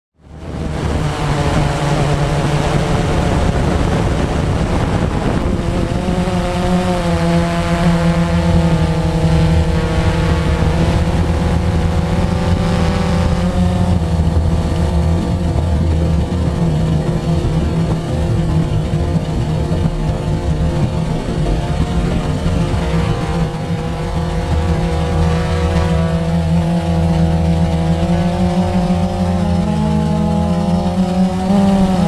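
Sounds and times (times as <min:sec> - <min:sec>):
drone motors humming: 0:00.2 - 0:32.0
higher motor tones: 0:00.2 - 0:32.0.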